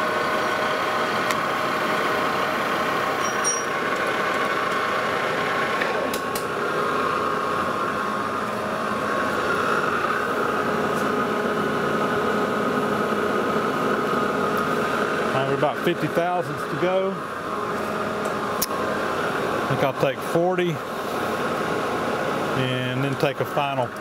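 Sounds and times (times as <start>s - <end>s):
metal lathe running: 0.0s - 24.0s
steady machine hum: 0.0s - 24.0s.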